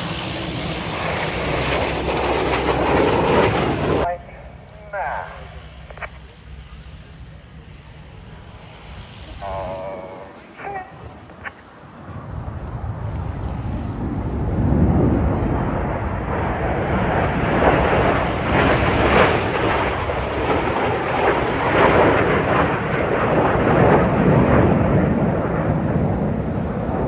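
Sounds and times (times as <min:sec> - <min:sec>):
jets flying over: 0:00.0 - 0:27.0.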